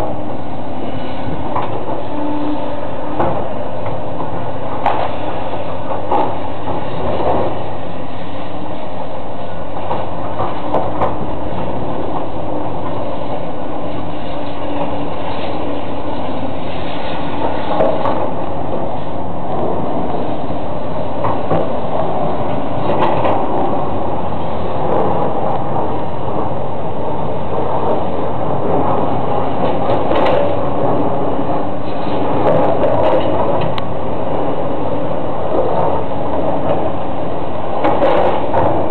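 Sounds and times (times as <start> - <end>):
heavy machinery rumbling: 0.0 - 38.9.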